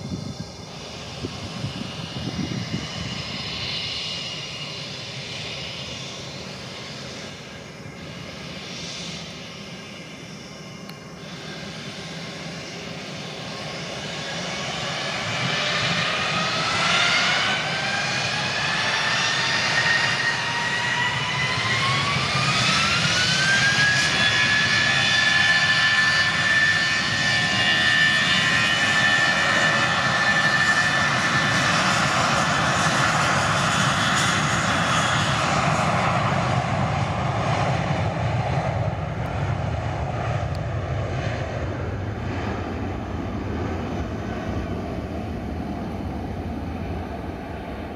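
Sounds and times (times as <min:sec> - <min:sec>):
jet engines spooling up whine: 0:00.0 - 0:47.9.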